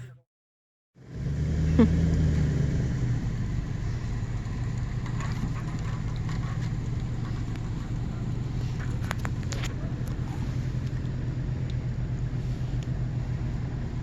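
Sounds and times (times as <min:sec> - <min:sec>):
vehicle engine running: 0:01.0 - 0:14.0.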